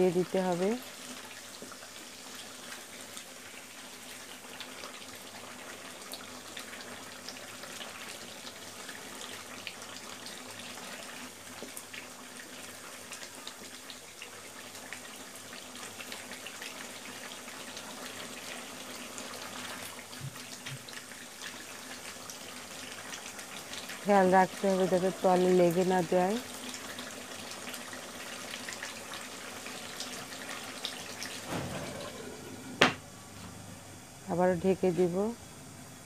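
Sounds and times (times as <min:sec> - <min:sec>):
curry sizzling and bubbling: 0:00.0 - 0:34.3.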